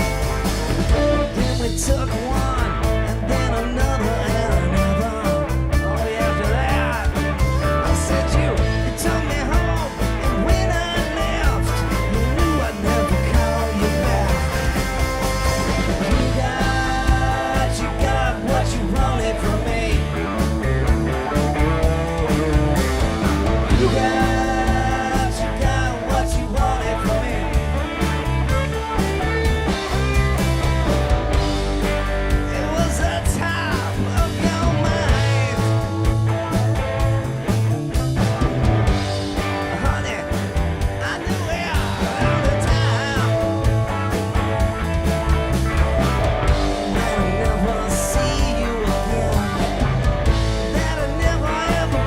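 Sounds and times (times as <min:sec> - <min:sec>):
electric guitar bending notes: 0:00.0 - 0:52.0
rock and roll band playing: 0:00.0 - 0:52.0.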